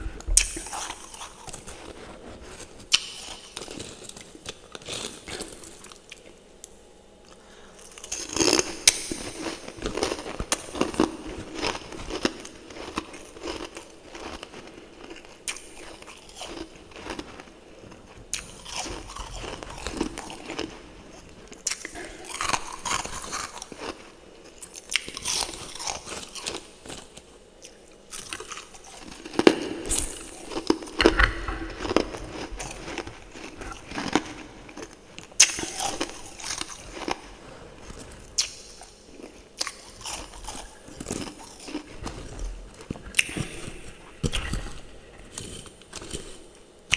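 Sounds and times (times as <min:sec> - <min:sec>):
chewing and crunching frost: 0:00.2 - 0:46.9.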